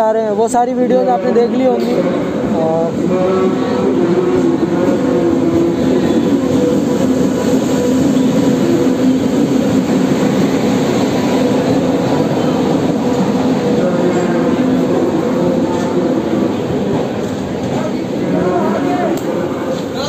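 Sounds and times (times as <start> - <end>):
passenger train rolling past: 0.0 - 20.0.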